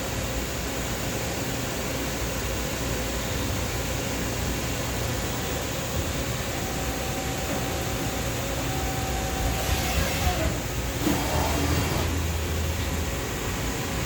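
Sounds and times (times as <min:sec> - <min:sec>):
machine hum and hiss: 0:00.0 - 0:14.0.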